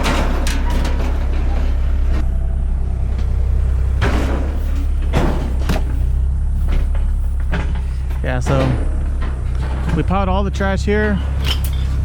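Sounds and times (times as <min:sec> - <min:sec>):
excavator engine running: 0:00.0 - 0:12.0
harsh demolition noise: 0:00.0 - 0:12.0.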